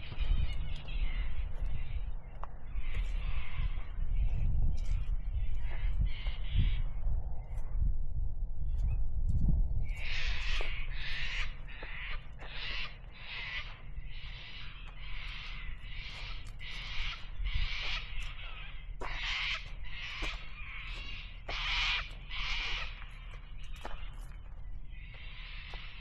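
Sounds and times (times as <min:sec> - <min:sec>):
birds giving scratchy calls: 0:00.0 - 0:07.0, 0:09.9 - 0:26.0.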